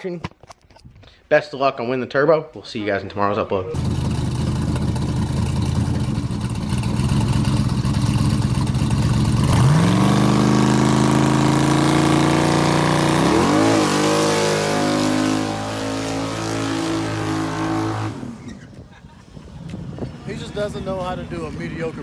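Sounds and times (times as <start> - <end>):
car engine idling and revving: 3.8 - 22.0.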